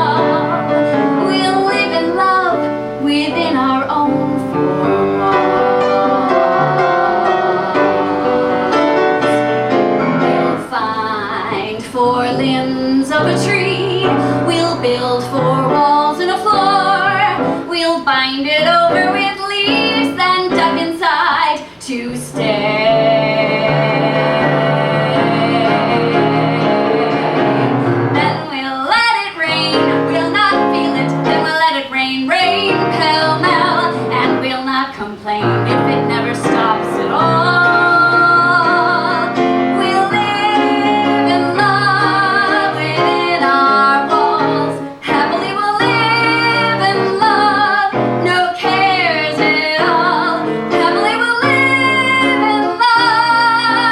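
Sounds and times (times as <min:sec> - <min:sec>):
musical accompaniment: 0:00.0 - 0:53.9
woman singing with vibrato: 0:00.0 - 0:53.9.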